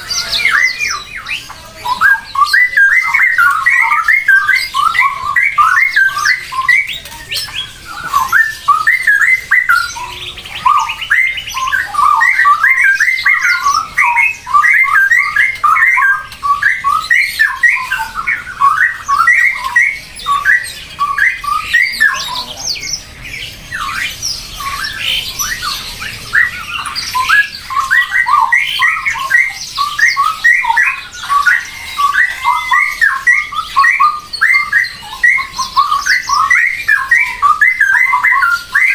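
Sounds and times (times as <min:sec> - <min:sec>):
birds chattering: 0:00.0 - 0:38.9.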